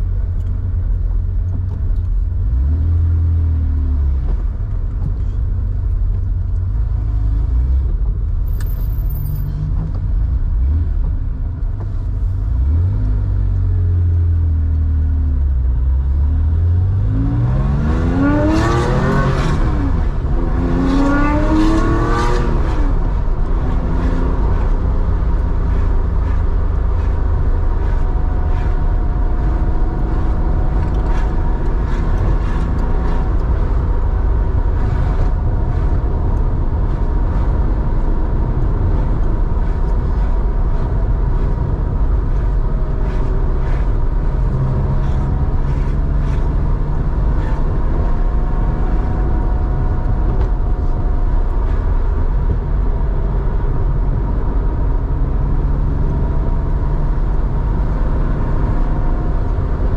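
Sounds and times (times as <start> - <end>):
car engine revving: 11.9 - 59.9.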